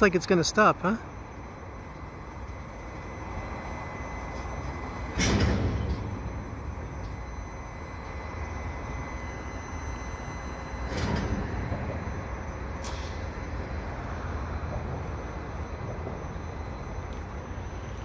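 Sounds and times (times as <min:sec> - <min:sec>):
train wheels rumbling on rail: 0:01.9 - 0:18.0.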